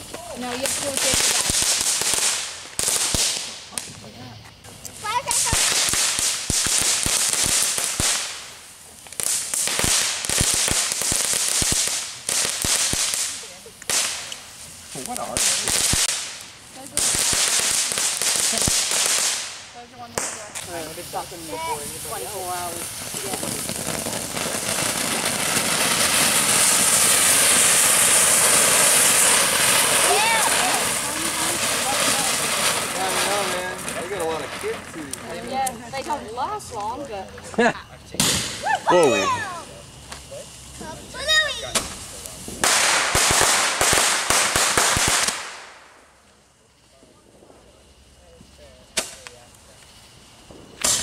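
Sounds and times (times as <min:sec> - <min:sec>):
firework hissing and crackling: 0:00.0 - 0:51.0.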